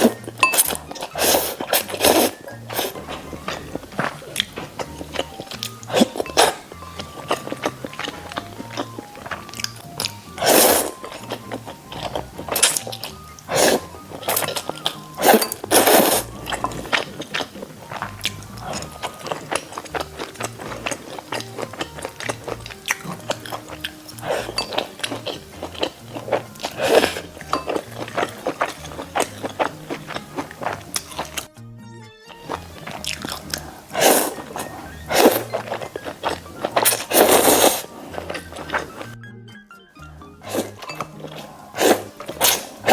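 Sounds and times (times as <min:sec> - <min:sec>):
crunchy bites and chewing: 0:00.0 - 0:31.5, 0:32.3 - 0:39.2, 0:40.4 - 0:42.9
background music: 0:00.0 - 0:42.9.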